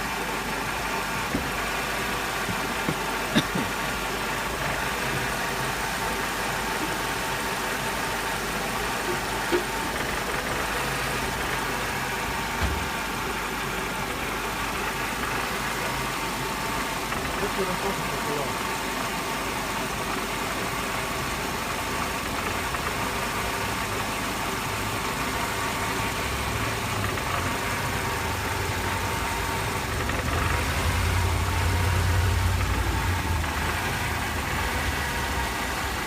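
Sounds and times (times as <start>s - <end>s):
car engine idling with misfires: 0.0s - 36.0s.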